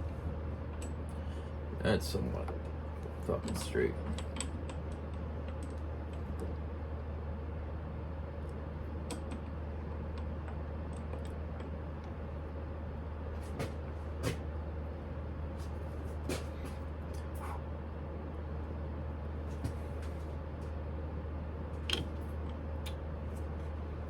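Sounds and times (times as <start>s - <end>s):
shop machinery humming: 0.0s - 24.0s.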